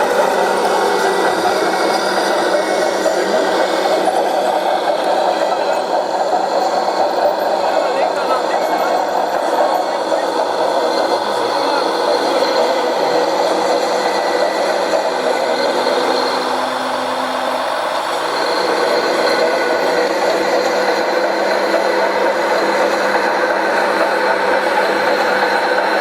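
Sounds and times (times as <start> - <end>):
toy truck motor drone: 0.0 - 26.0.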